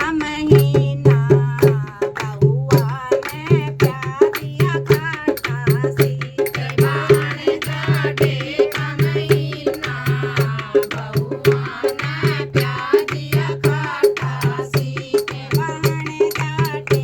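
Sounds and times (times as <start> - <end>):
fast hand-drum beat: 0.0 - 17.0
voices singing folk song: 0.0 - 17.0.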